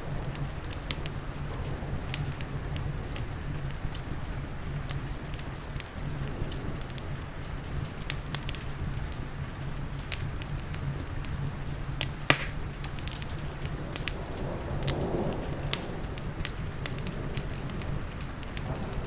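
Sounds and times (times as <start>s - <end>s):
rain rushing: 0.0s - 19.0s
wood fire crackling and popping: 0.0s - 19.0s.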